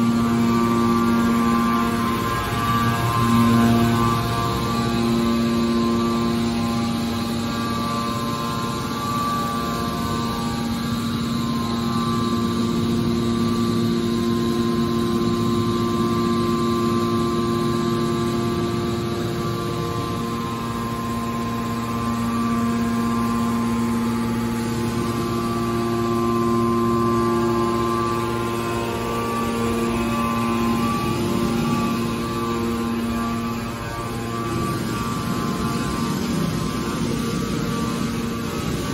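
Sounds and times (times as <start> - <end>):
hydraulic pump motor humming: 0.0 - 38.9.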